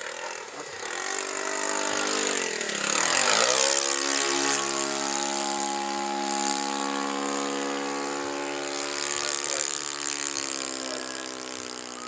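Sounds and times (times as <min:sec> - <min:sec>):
model airplane engine buzzing: 0:00.0 - 0:12.0.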